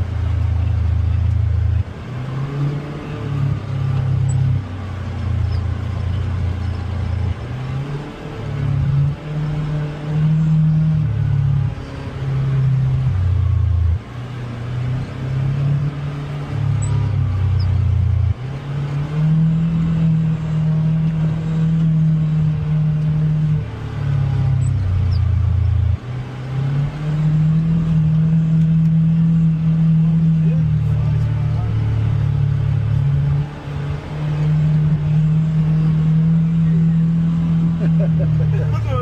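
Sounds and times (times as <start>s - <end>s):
utility vehicle engine revving: 0.0s - 39.0s.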